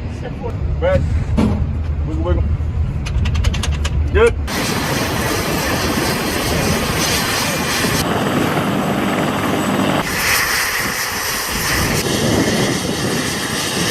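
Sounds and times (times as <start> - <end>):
helicopter turbine and rotor: 2.2 - 13.9.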